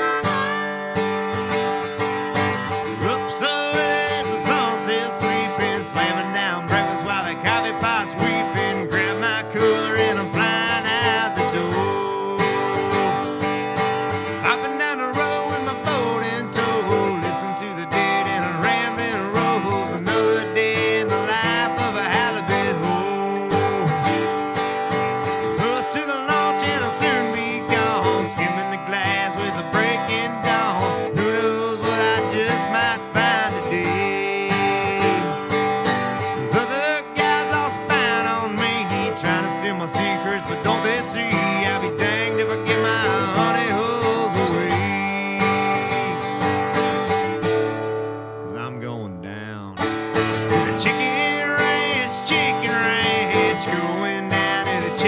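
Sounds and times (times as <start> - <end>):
country music guitar instrumental: 0.0 - 55.0.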